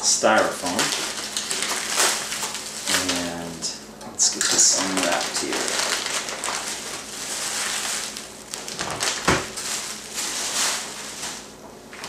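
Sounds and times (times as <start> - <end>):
bubble wrap and plastic crinkling: 0.0 - 12.0.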